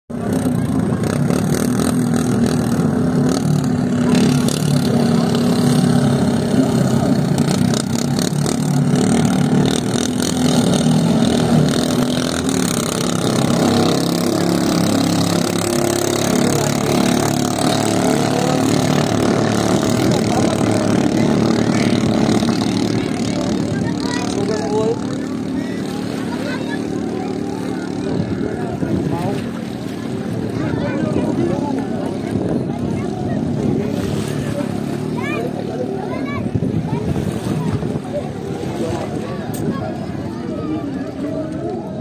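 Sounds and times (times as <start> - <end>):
small boat engines running: 0.1 - 42.0.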